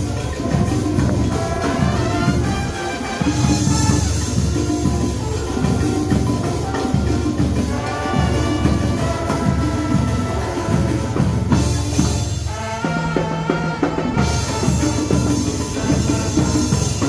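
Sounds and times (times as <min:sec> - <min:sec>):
drum strokes: 0:00.0 - 0:17.0
marching band playing: 0:00.0 - 0:17.0.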